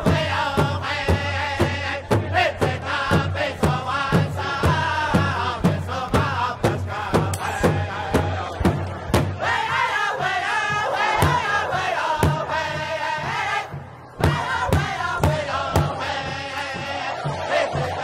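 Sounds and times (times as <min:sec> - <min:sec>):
chanted and sung vocals: 0:00.0 - 0:18.0
heavy drum beats: 0:00.0 - 0:18.0.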